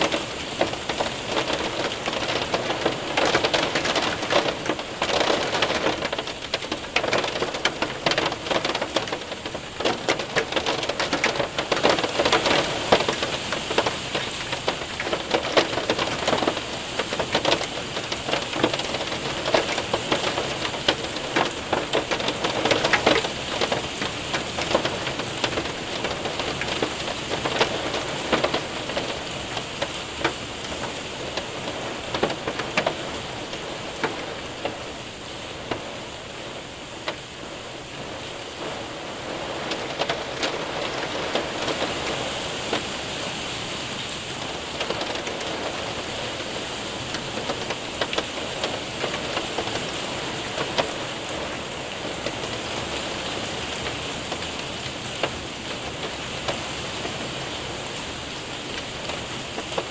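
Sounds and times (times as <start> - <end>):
hailstones ticking and knocking: 0.0 - 59.9
rain on window and roof: 0.0 - 59.9.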